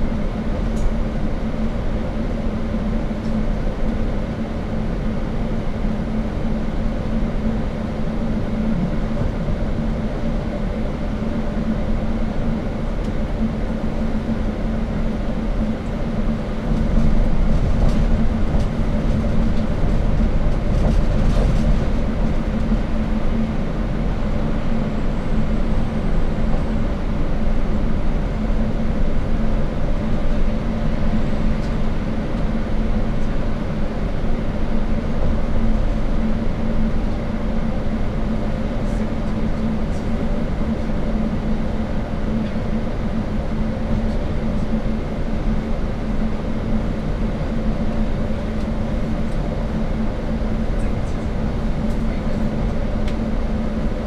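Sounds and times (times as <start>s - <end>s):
bus engine drone: 0.0s - 54.0s
road noise inside bus: 0.0s - 54.0s.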